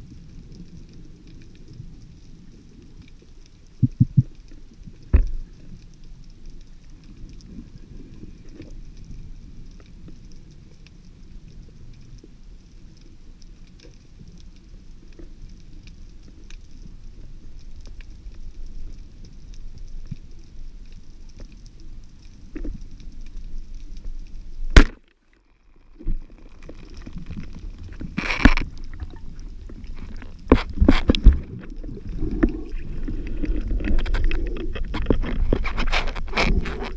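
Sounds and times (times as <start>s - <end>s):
low underwater rumble: 0.0s - 24.9s, 25.5s - 36.9s.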